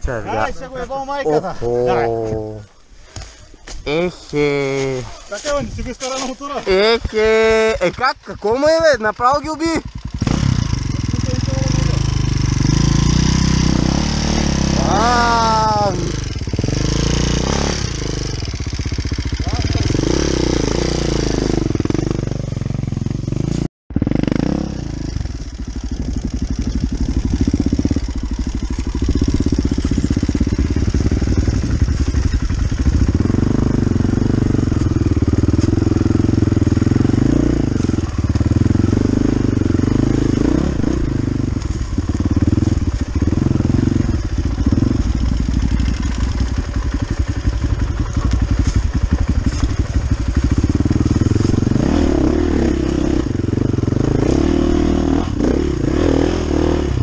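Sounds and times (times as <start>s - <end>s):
motorcycle engine running: 6.5s - 57.0s.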